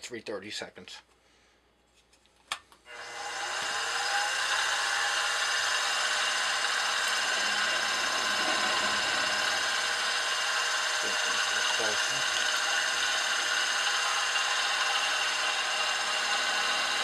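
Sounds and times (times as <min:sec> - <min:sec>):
milling machine spindle whine: 0:02.9 - 0:17.0.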